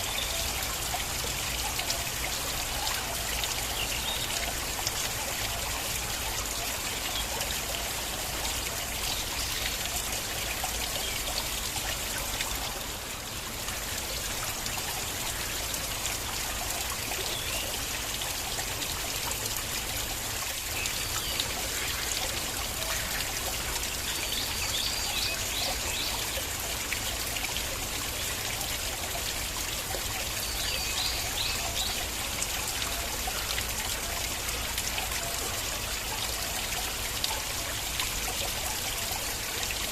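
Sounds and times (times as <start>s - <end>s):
water stream trickling: 0.0s - 39.9s.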